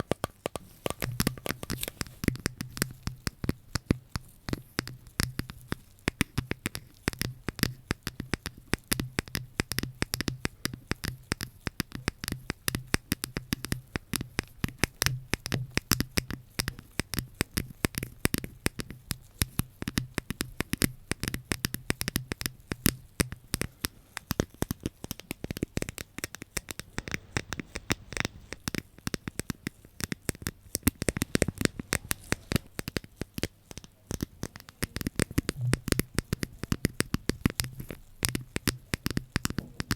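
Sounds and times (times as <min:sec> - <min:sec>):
crisp tapping and scratching: 0:00.0 - 0:39.9.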